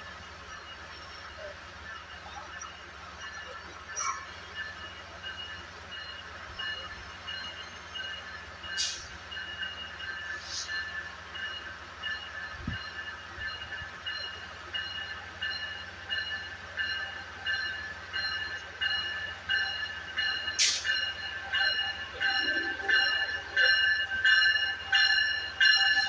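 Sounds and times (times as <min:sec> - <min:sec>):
train bell ringing: 0:00.0 - 0:26.0.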